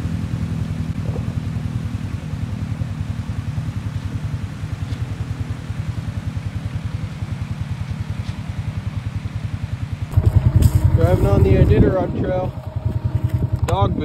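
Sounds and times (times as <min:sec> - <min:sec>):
faint rush of shallow river: 0:00.0 - 0:11.6
engine idling with low putter: 0:00.0 - 0:14.0.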